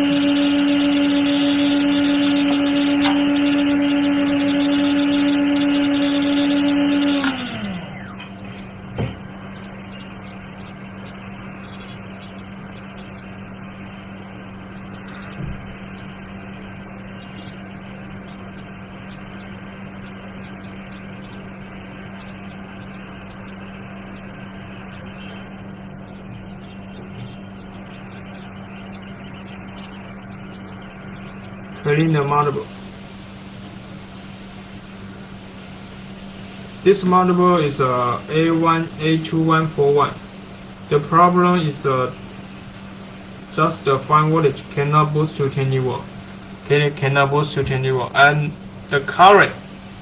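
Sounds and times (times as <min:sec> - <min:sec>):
hot air blower hum and hiss: 0:00.0 - 0:50.0
quiet steady hum: 0:00.0 - 0:50.0.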